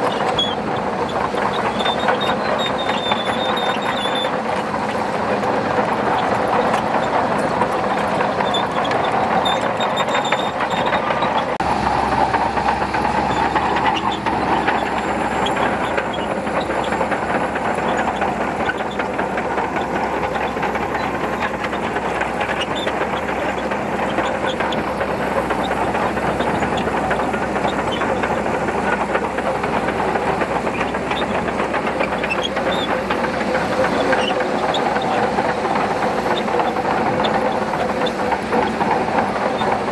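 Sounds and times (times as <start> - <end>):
diesel engine running: 0.0 - 39.9
steel tracks clattering: 0.0 - 39.9.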